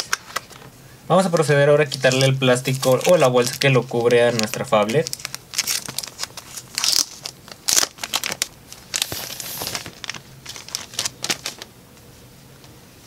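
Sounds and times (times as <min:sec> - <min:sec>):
plastic bag crinkling: 0:01.2 - 0:11.7.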